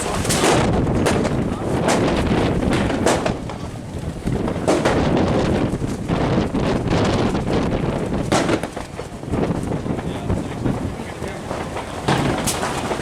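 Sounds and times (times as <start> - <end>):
sharp cracks: 0.0 - 10.6, 11.3 - 13.0
wind buffeting microphone: 0.0 - 13.0.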